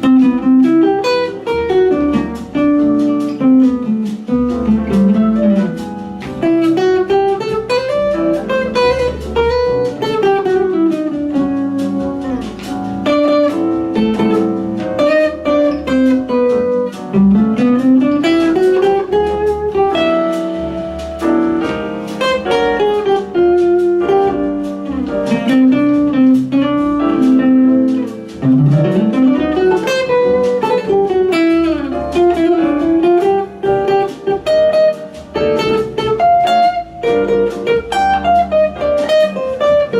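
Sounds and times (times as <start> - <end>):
guitar melody with gliding notes: 0.0 - 39.9.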